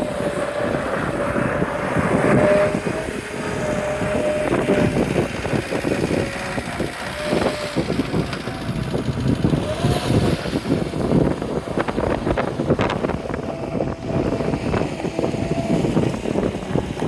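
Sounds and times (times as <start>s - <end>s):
diesel engine rumbling: 0.0s - 17.0s
steady whine: 0.0s - 17.0s.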